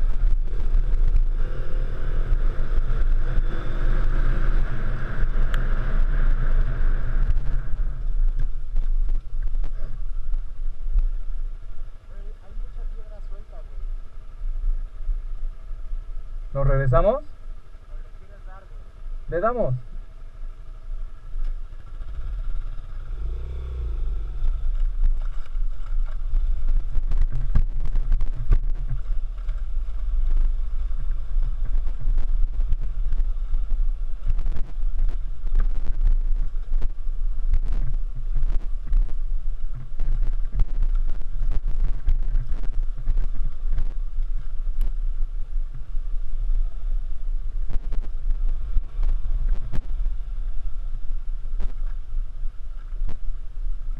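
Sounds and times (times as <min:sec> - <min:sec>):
motorcycle engine running: 0:00.0 - 0:13.1, 0:17.9 - 0:53.9
wind rumble on microphone: 0:00.0 - 0:53.9.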